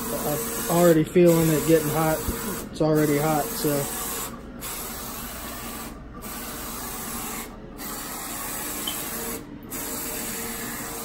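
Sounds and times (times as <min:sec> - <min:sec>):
printer carriage hissing: 0:00.0 - 0:11.0.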